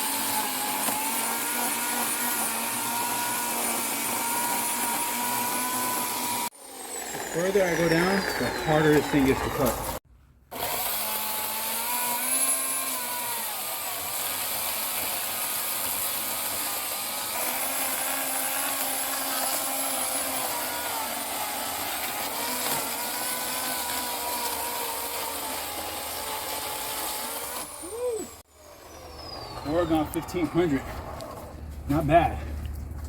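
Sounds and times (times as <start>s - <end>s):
electric chainsaw cutting wood: 0.0s - 31.4s.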